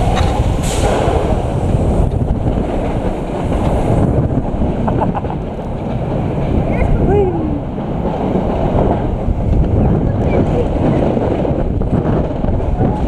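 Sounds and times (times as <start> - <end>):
roller coaster rumbling on steel track: 0.0 - 13.0
wind buffeting microphone: 0.0 - 13.0.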